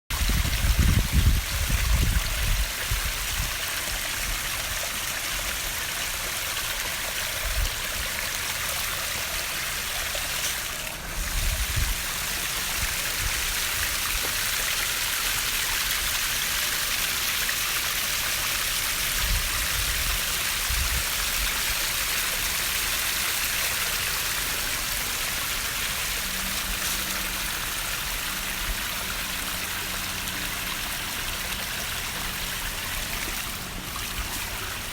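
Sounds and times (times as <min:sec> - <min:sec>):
waterfall splashing and trickling: 0:00.1 - 0:34.9.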